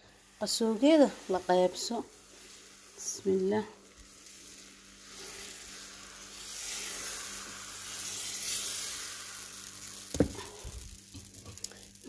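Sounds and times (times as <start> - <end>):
batter sizzling on a hot pan: 0.0 - 12.0.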